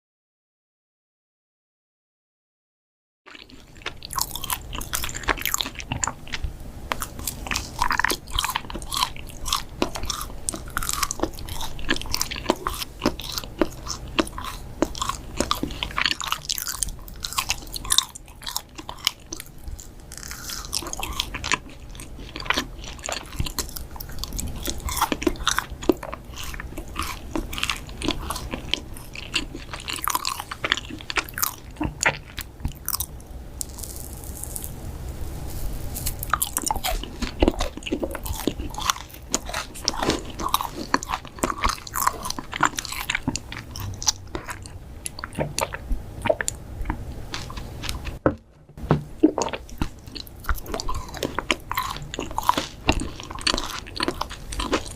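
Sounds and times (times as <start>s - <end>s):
crunchy cookies being chewed: 3.3s - 34.8s, 35.4s - 54.9s.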